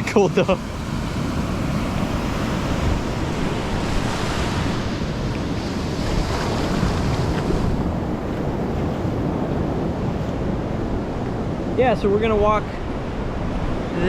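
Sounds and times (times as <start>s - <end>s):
waves washing onto beach: 0.0s - 14.0s
wind buffeting microphone: 0.0s - 14.0s.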